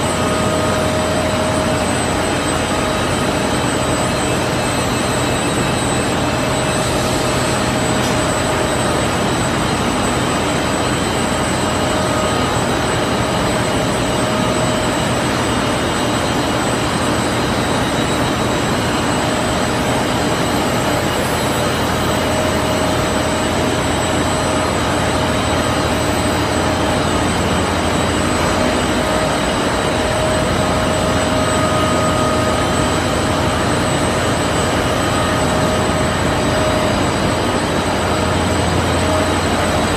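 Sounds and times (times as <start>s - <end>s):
machinery drone: 0.0s - 39.9s
motors and rollers whining: 0.0s - 39.9s.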